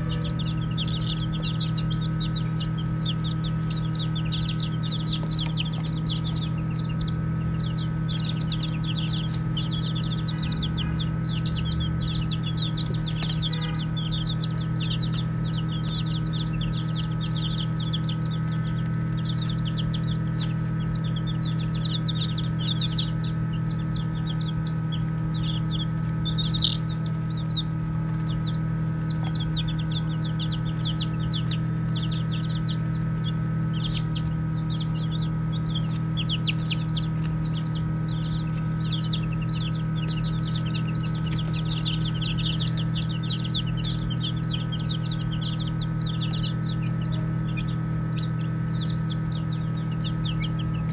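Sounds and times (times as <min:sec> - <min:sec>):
baby chicks peeping: 0:00.0 - 0:50.9
steady low hum: 0:00.0 - 0:50.9.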